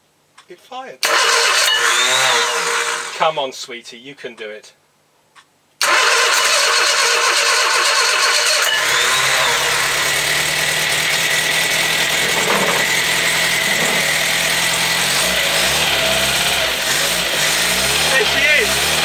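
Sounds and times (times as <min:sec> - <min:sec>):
petrol engine starting and running: 0:01.0 - 0:03.3, 0:05.8 - 0:19.0.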